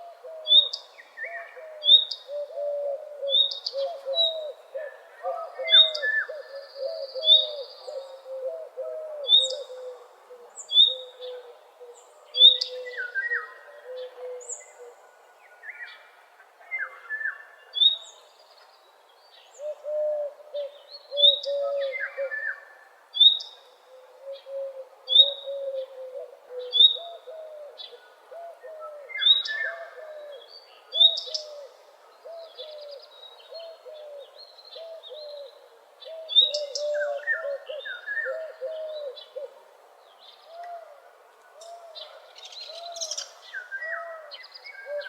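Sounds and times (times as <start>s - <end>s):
birds singing: 0.0s - 16.1s, 16.7s - 45.0s.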